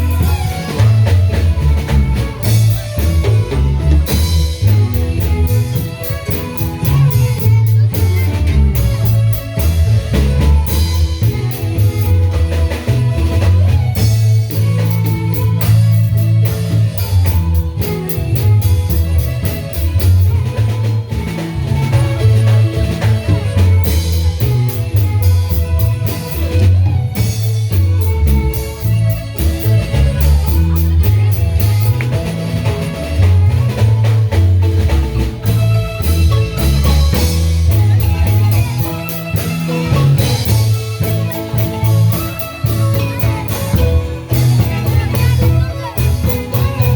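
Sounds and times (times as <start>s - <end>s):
bass: 0.0s - 46.9s
drum kit beat: 0.0s - 46.9s
marimba band playing: 0.0s - 46.9s.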